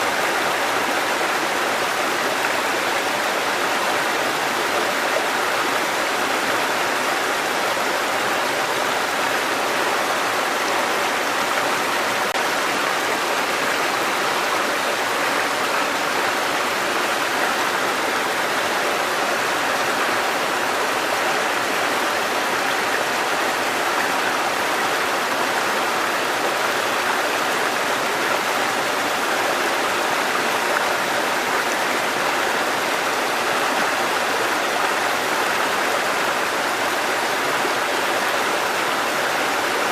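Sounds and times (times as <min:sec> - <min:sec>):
water cascading over rocks: 0:00.0 - 0:39.9.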